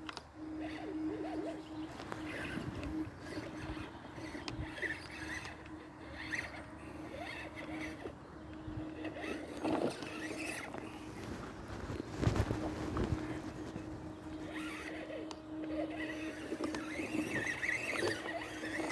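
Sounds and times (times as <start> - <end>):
electric motor humming: 0.0 - 18.9
tires rustling on rough ground: 0.0 - 18.9.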